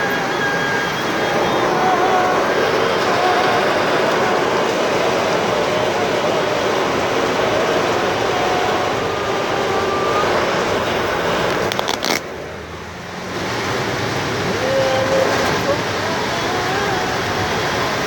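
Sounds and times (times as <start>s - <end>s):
heavy rain pouring: 0.0s - 18.0s
road traffic: 0.0s - 18.0s.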